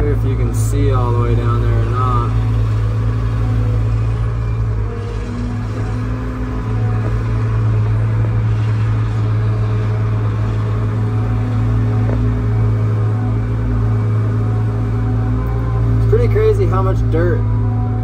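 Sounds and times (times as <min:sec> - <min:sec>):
excavator diesel engine drone: 0:00.0 - 0:18.0.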